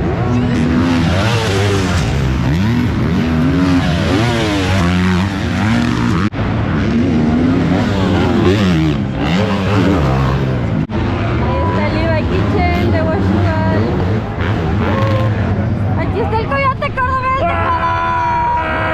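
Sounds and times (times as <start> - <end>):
motocross bike engines revving: 0.0 - 17.4.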